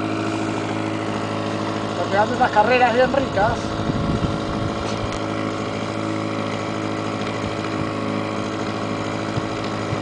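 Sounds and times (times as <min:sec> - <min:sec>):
outboard motor humming: 0:00.0 - 0:10.0.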